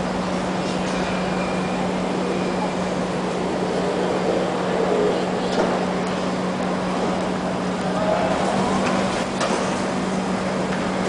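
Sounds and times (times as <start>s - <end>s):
metro train humming: 0.0s - 11.0s.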